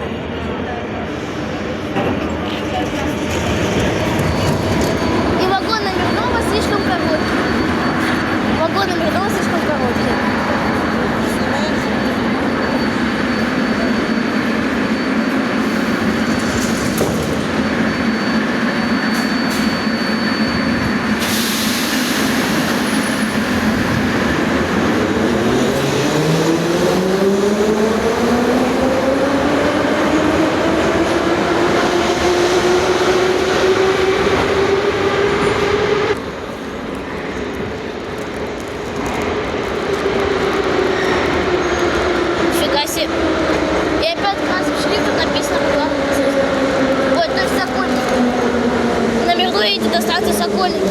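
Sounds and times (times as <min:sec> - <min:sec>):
train cars rumbling: 0:00.0 - 0:50.9.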